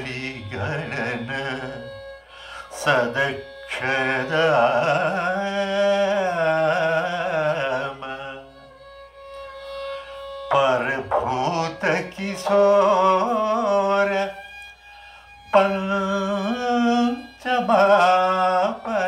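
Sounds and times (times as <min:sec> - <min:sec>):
man singing ornamented phrases: 0:00.0 - 0:08.9, 0:10.4 - 0:14.4, 0:15.5 - 0:19.0
violin accompaniment: 0:00.0 - 0:19.0.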